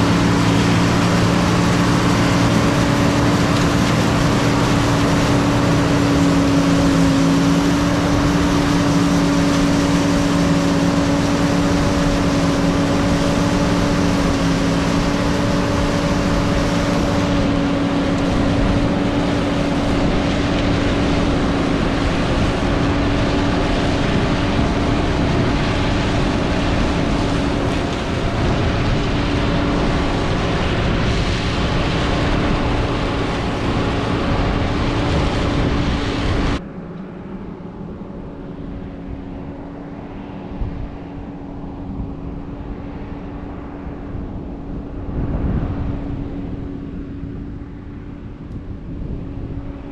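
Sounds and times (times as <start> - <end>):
combine harvester rumble: 0.0 - 49.9
steady mechanical hum: 0.0 - 49.9.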